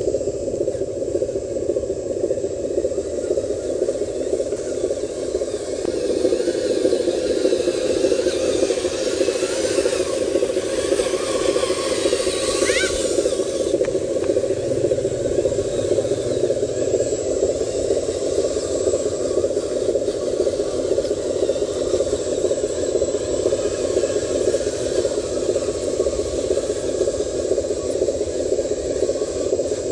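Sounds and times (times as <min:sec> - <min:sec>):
frogs croaking chorus: 0:00.0 - 0:29.9
model truck motor whining: 0:03.5 - 0:29.8.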